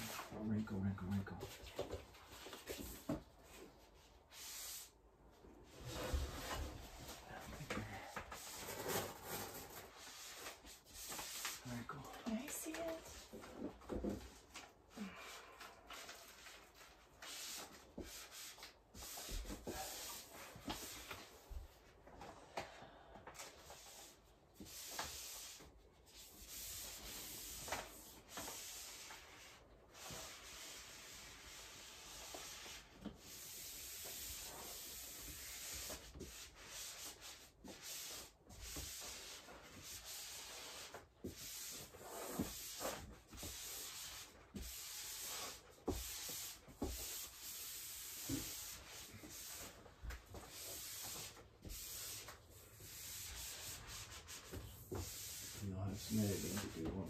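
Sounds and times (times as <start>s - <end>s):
eraser rubbing on wallpaper: 5.7s - 13.7s, 15.2s - 21.7s, 23.5s - 57.0s.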